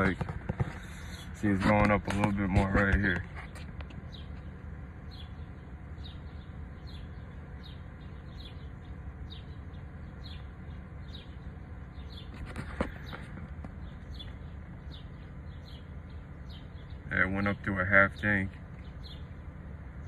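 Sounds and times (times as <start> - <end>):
steady low hum: 0.0 - 20.0
bird chirping: 2.8 - 20.0.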